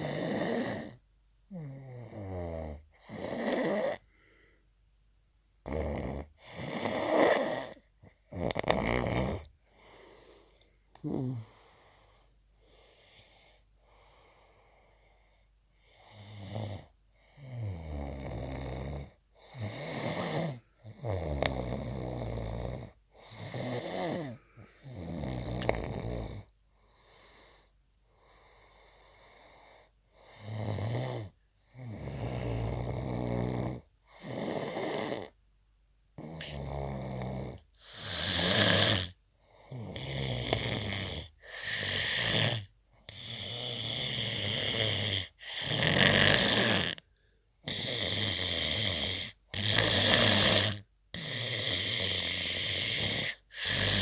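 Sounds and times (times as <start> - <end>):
loud snoring: 0.0 - 4.0, 5.6 - 9.5, 11.0 - 11.6, 16.0 - 26.5, 28.8 - 35.4, 36.2 - 54.0.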